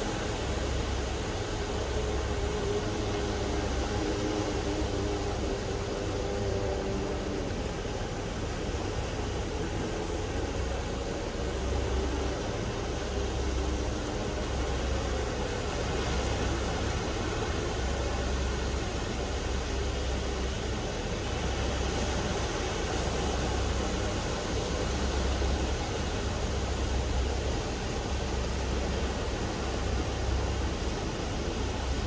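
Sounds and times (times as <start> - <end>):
small waves washing on sand: 0.0 - 32.0.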